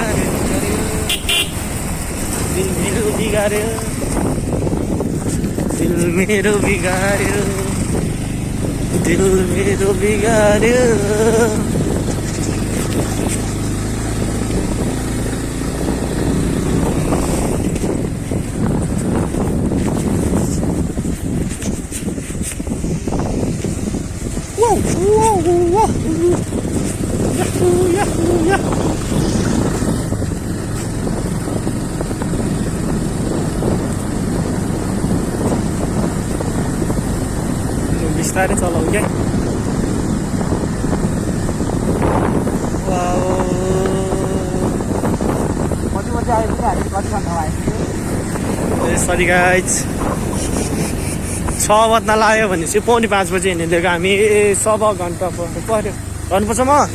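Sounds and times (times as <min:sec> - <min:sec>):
motorcycle engine running: 0:00.0 - 0:56.9
wind rumbling on microphone: 0:00.0 - 0:56.9.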